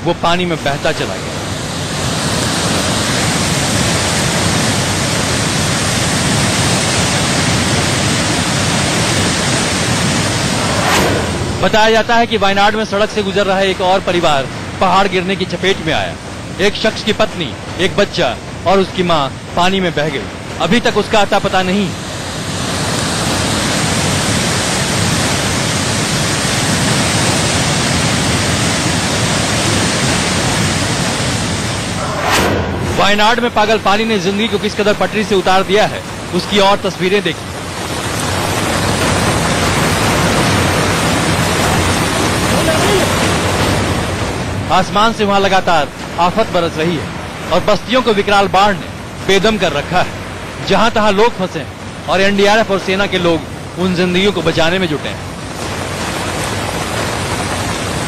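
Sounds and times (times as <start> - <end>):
floodwater rushing in a torrent: 0.0 - 58.0.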